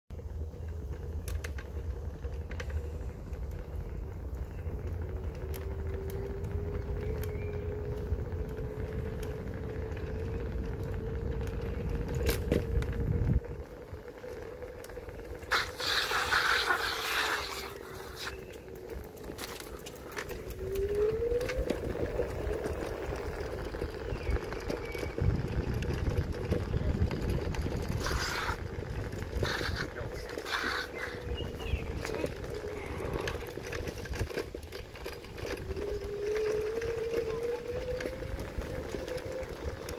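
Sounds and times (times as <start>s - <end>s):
scooter wheels rumbling on boards: 0.1s - 39.9s
electric motor whine: 1.8s - 39.9s.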